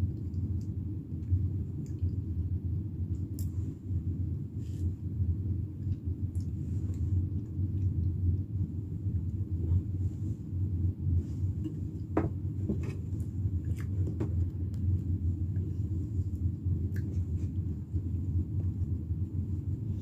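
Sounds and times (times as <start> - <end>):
low rumbling background hum: 0.0 - 20.0.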